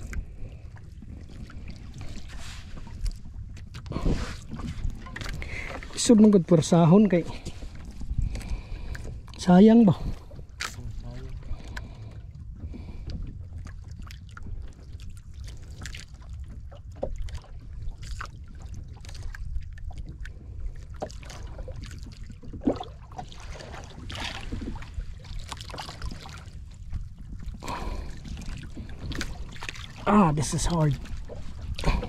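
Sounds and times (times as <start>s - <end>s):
water lapping against boat: 0.0s - 32.0s
wind rumbling on microphone: 0.0s - 32.0s.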